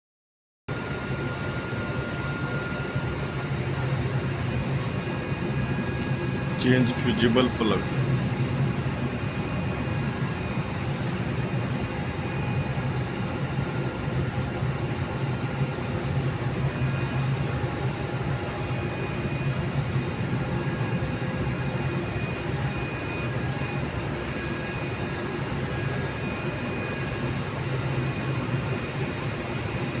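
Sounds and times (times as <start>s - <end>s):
faint high whine: 0.7s - 30.0s
machinery low hum: 0.7s - 30.0s.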